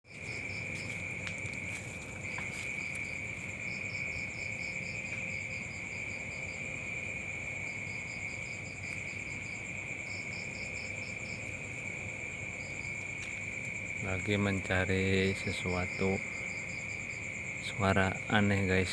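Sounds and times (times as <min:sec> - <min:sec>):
insects steady high trill: 0:00.0 - 0:18.9
insects rapid higher chirps: 0:00.1 - 0:18.9.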